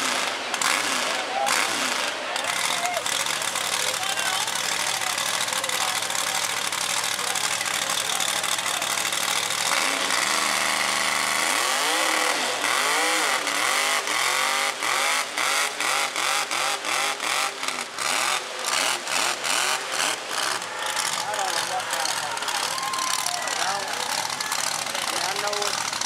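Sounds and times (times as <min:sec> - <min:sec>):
truck engines at full throttle: 0:00.0 - 0:26.0.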